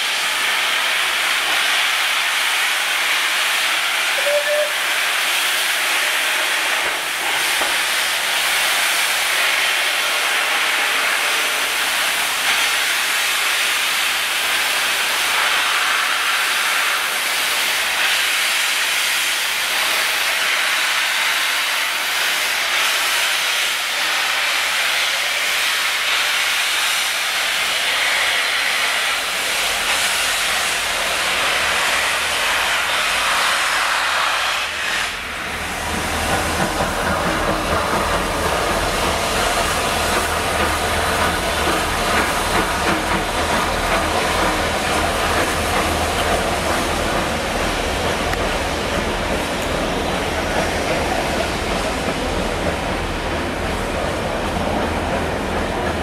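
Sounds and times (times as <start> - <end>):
steam locomotive hissing: 0.0 - 56.0.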